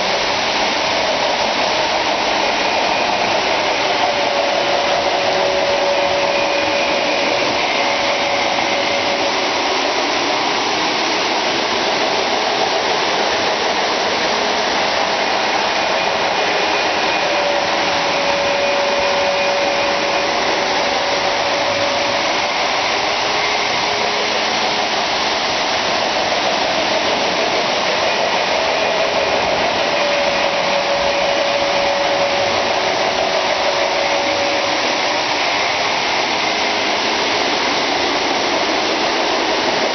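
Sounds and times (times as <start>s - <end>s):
model trains whirring rumble: 0.0s - 39.9s.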